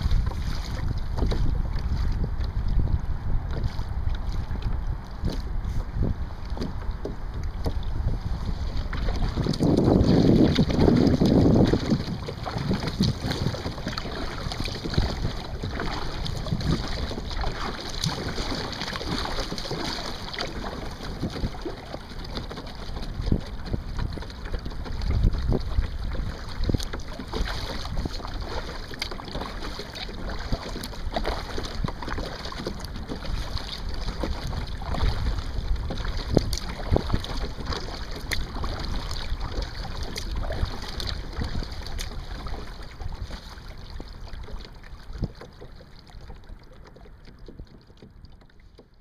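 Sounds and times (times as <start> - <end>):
wind buffeting microphone: 0.0 - 45.5
water lapping against kayak hull: 0.0 - 49.0.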